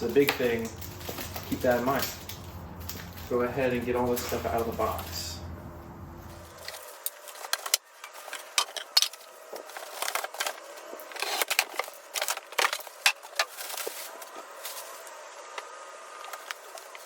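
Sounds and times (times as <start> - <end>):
packaging rustling and crinkling: 0.0 - 5.3, 6.2 - 17.0.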